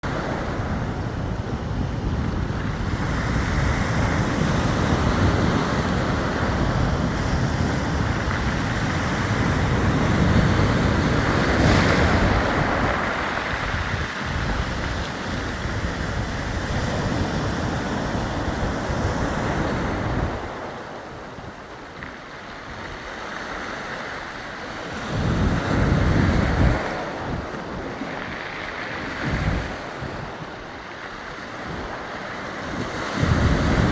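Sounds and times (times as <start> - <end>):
waves rolling pebbles: 0.0 - 33.9
wind gusting on microphone: 0.0 - 33.9.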